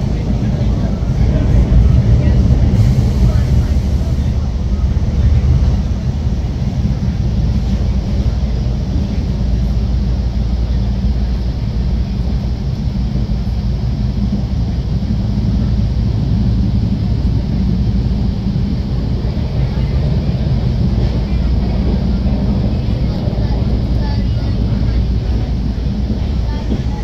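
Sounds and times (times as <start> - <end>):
train rumbling inside coach: 0.0 - 27.0.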